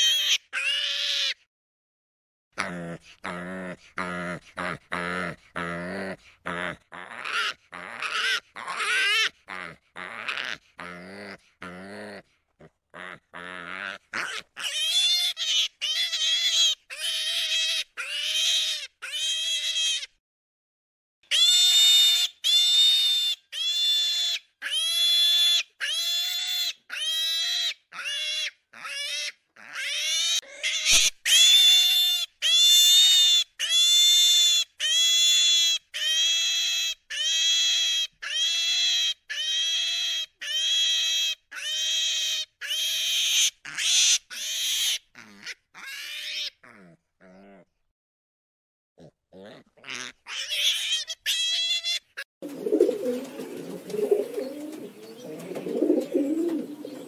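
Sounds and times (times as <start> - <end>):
piglets squealing: 0.0 - 1.4, 2.7 - 12.2, 12.9 - 20.2, 21.3 - 47.7, 49.0 - 52.3.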